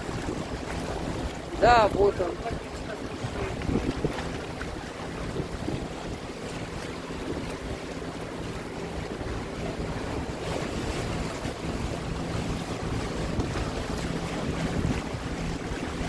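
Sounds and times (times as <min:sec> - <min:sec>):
boat motor humming: 0:00.0 - 0:16.0
water splashing along hull: 0:00.0 - 0:16.0
wind buffeting microphone: 0:00.0 - 0:16.0.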